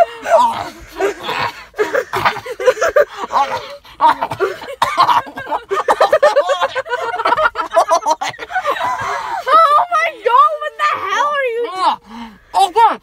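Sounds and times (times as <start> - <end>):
people laughing and snickering: 0.0 - 11.4.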